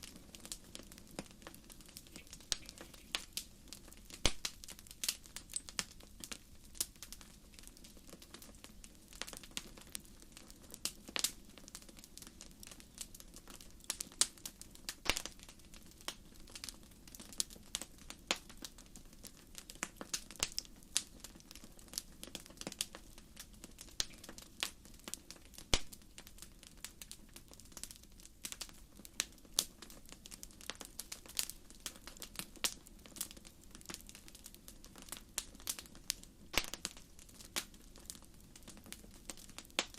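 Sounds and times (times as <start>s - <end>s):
firewood popping and snapping: 0.1s - 10.1s, 13.8s - 21.2s, 21.9s - 39.9s.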